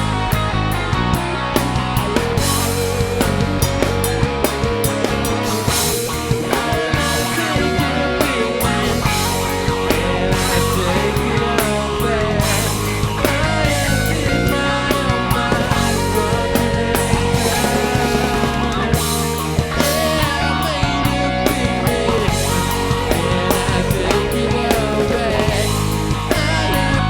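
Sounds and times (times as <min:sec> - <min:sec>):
live rock band music: 0:00.0 - 0:27.0.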